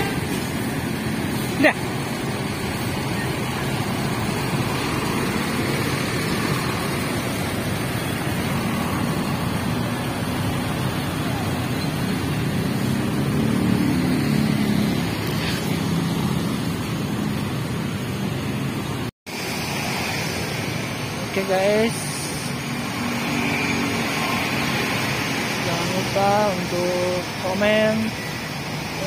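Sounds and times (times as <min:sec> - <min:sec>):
louder vehicle passing: 0:00.0 - 0:20.8, 0:21.4 - 0:26.9
road traffic rumble: 0:00.0 - 0:29.0.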